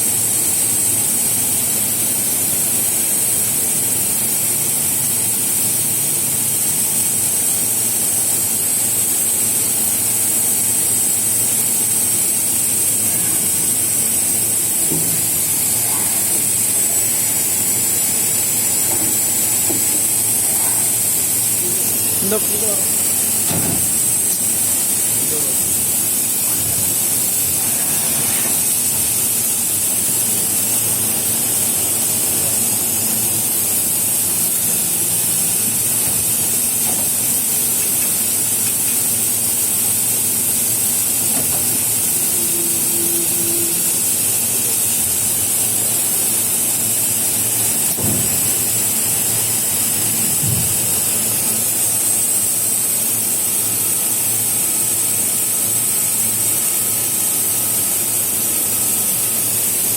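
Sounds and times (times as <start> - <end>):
machining center hissing and whining: 0.0 - 59.9.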